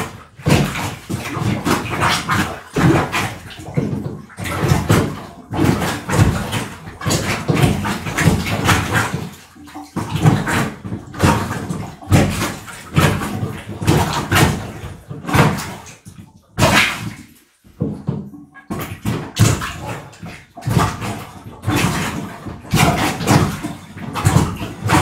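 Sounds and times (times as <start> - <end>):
toilet plunger pumping: 0.0 - 25.0.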